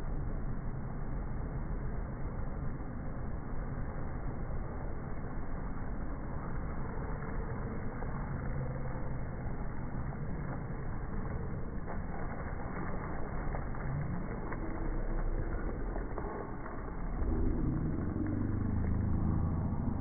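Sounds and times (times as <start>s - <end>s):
faint hum: 0.0s - 20.0s
low outdoor rumble and hiss: 0.0s - 20.0s.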